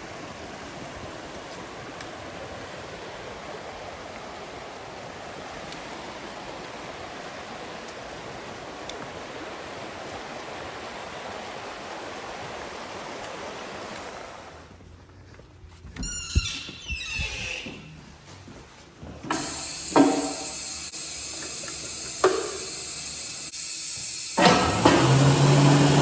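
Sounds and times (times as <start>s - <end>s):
flowing water rushing: 0.0s - 14.8s, 19.3s - 26.0s.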